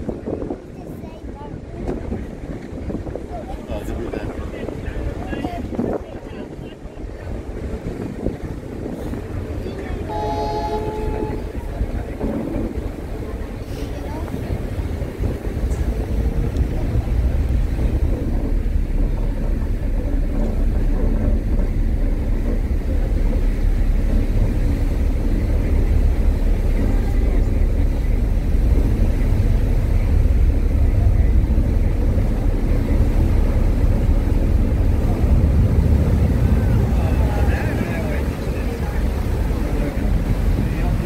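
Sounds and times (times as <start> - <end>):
ferry engines rumbling: 0.0 - 41.0
rushing wash of water: 0.0 - 41.0.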